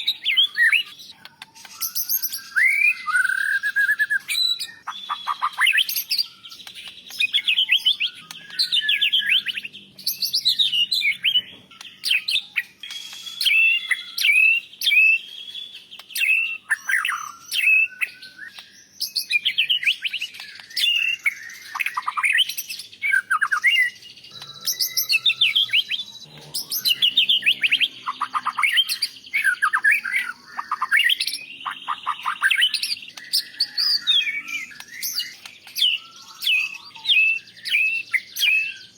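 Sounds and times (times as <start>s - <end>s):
bird singing trills and whistles: 0.0s - 38.9s.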